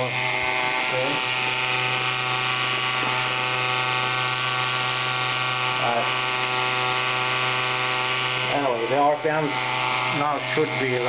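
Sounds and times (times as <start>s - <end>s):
electrical hum: 0.0s - 11.0s
rotary tool running: 0.0s - 11.0s.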